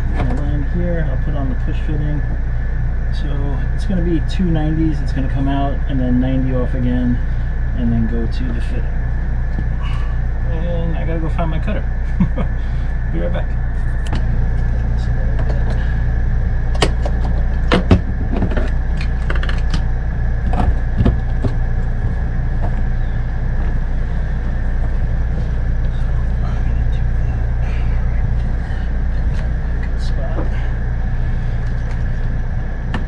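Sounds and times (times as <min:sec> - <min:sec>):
high whine: 0:00.0 - 0:33.0
low mechanical hum: 0:00.0 - 0:33.0.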